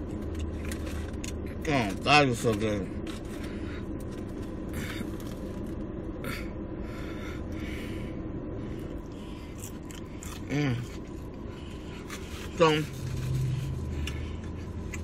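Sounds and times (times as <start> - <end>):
person chewing crunchy food: 0.0 - 5.9, 8.8 - 15.0
steady low hum: 0.0 - 15.0.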